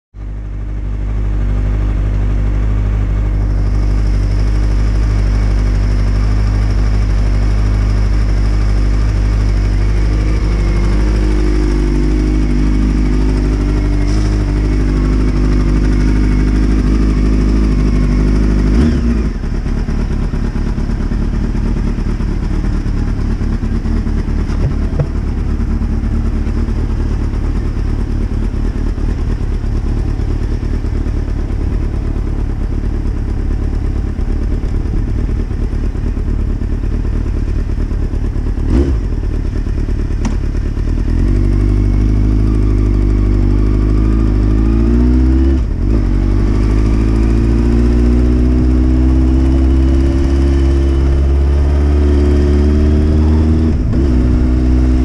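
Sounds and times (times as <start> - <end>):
motorcycle engine idling: 0.2 - 55.0.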